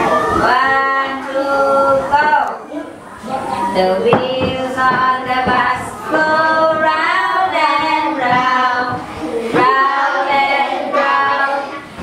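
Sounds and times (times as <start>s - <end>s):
children and woman singing: 0.0s - 12.0s.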